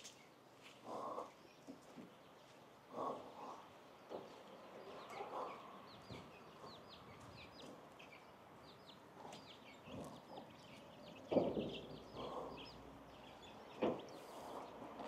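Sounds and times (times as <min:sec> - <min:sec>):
chickens clucking: 0:00.6 - 0:15.0.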